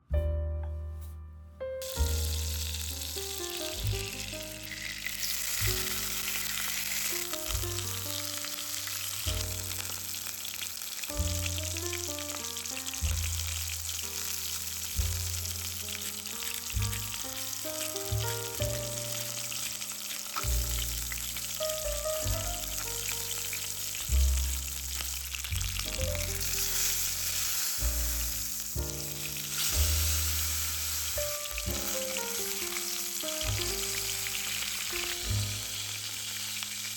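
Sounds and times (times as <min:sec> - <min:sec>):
background music with bass: 0:00.0 - 0:36.3
food sizzling in oil: 0:01.8 - 0:36.9.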